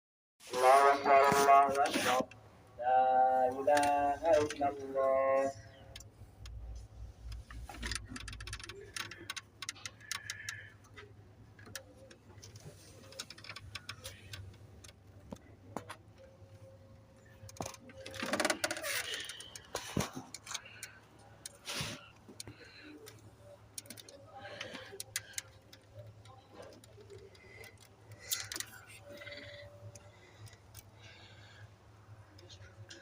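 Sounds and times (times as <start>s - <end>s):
faint voices: 0.4s - 33.0s
low steady hum: 0.5s - 33.0s
light clicks and ticks: 5.6s - 33.0s.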